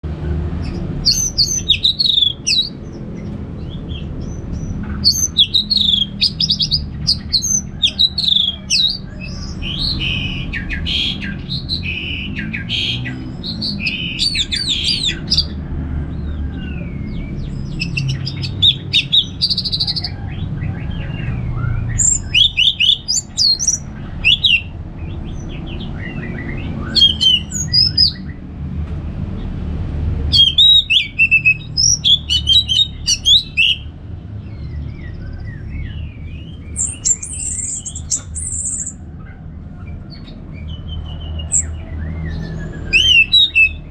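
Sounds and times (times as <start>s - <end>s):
thrush singing: 0.0s - 15.8s, 16.5s - 28.3s, 30.3s - 34.0s, 35.7s - 43.9s
steady low rumble: 0.0s - 43.9s.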